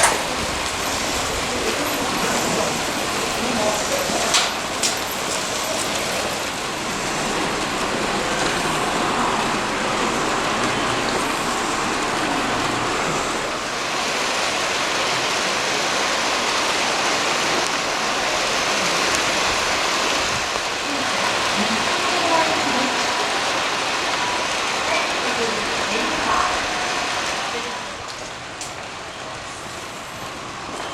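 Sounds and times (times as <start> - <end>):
electric train on rails: 0.0 - 30.9.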